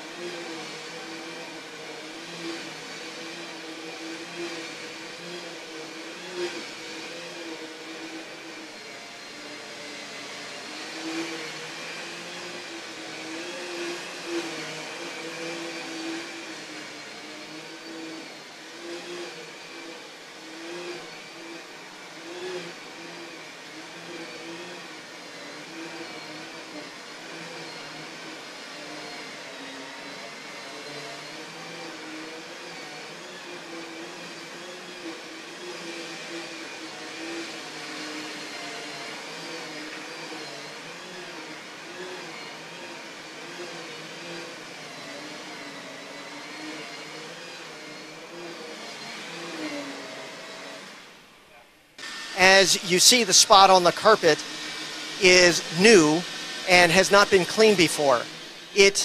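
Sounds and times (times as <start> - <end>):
carpet cleaner motor whining: 0.0 - 52.4, 53.4 - 56.7, 58.2 - 58.8.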